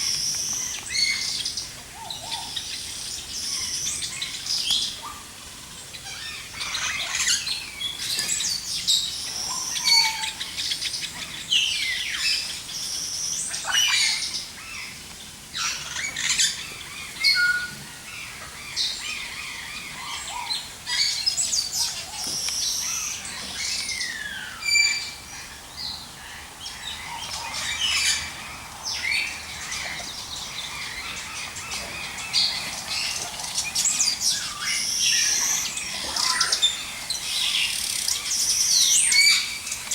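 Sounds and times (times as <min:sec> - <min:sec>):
birds chirping and whistling: 0:00.0 - 0:05.2, 0:06.0 - 0:39.9.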